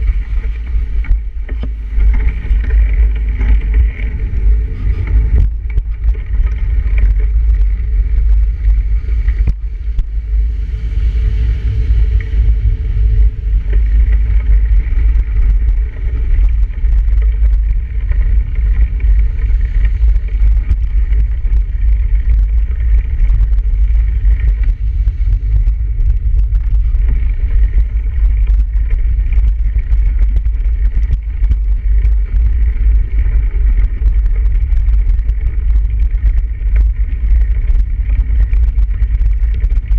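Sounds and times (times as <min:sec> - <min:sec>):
bicycle road noise: 0:00.0 - 0:39.9
wind buffeting microphone: 0:00.0 - 0:39.9.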